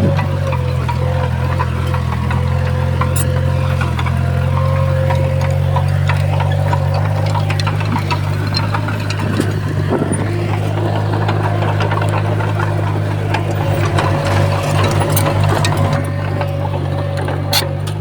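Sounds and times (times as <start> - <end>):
bulldozer diesel engine running: 0.0 - 18.0
metal clicks and knocks: 0.0 - 18.0.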